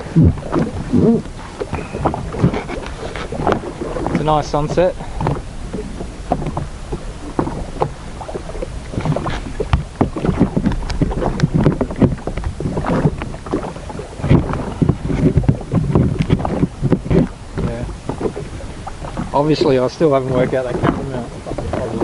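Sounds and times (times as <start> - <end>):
water splashing against hull: 0.0 - 22.0
wind on microphone: 0.0 - 22.0.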